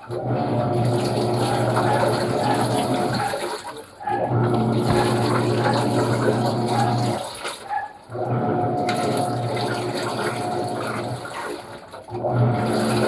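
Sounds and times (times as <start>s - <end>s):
washing machine motor hum: 0.0s - 13.0s
water sloshing: 0.0s - 13.0s.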